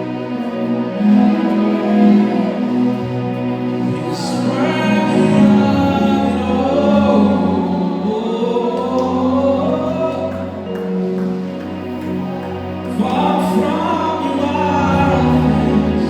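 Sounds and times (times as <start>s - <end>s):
gospel choir singing: 0.0s - 16.0s
sustained musical backing: 0.0s - 16.0s.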